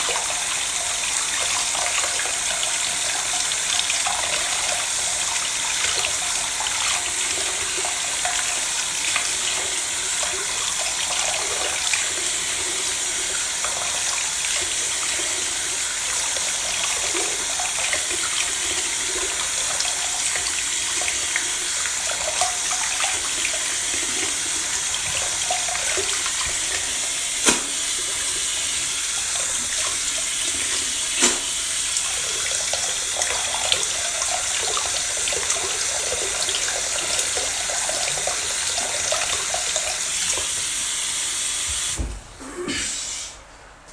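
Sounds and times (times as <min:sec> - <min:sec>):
tap water running into sink: 0:00.0 - 0:42.3.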